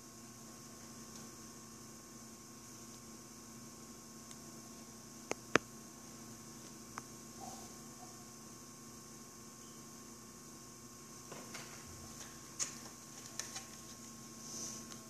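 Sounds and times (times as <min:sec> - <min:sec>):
pottery wheel humming: 0:00.0 - 0:15.0.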